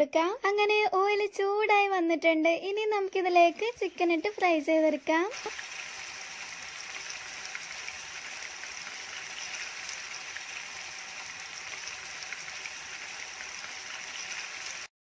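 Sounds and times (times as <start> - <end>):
chicken deep-frying in oil: 2.8 - 14.9.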